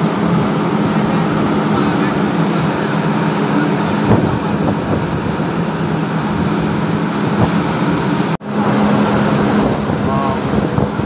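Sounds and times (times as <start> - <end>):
boat diesel engine humming: 0.0 - 11.0
choppy water: 0.0 - 11.0
gale-force wind rushing: 0.0 - 11.0.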